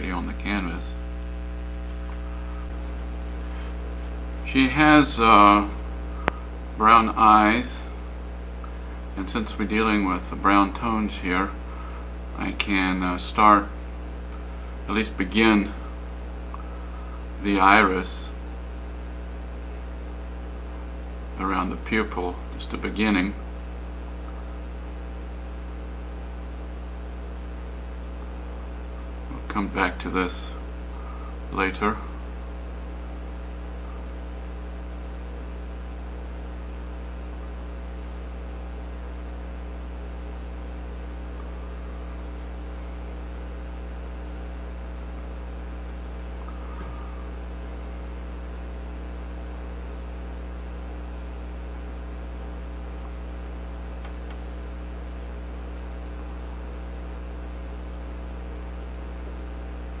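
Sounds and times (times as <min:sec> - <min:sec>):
electrical mains hum: 0:00.0 - 1:00.0.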